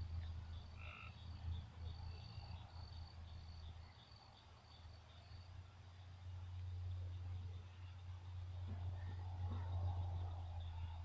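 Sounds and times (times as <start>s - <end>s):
insect chirping: 0.0s - 11.0s
low steady hum: 0.0s - 11.0s.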